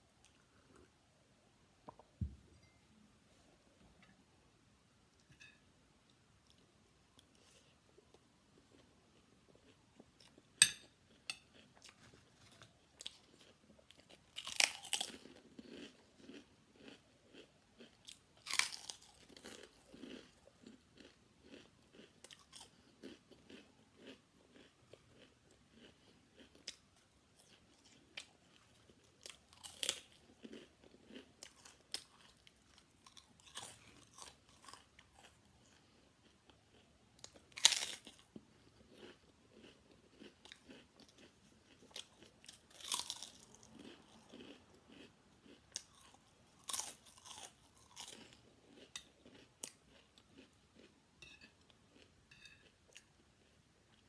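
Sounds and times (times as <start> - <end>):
soft chewing: 5.1 - 54.0.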